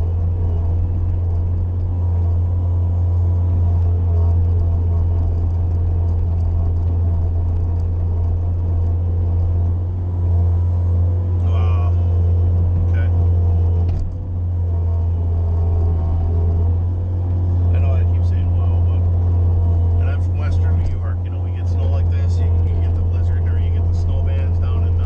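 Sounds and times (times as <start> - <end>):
loader engine droning: 0.0 - 25.0.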